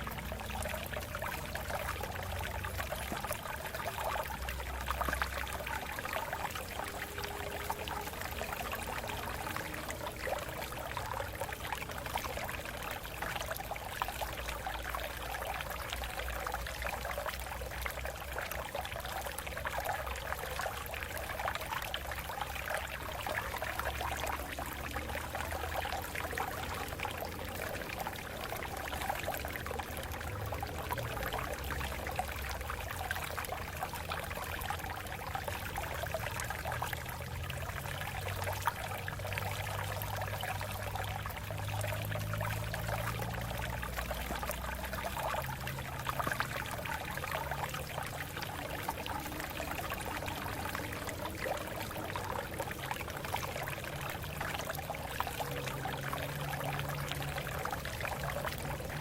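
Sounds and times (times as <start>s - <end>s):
water flowing over rocks: 0.0s - 59.0s.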